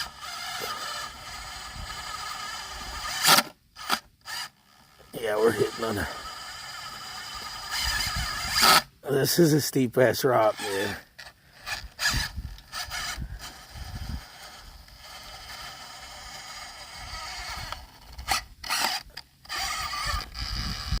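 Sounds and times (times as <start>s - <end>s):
tyres scraping on rock: 0.0s - 9.5s, 10.1s - 21.0s
electric motor and gears whining: 0.0s - 21.0s.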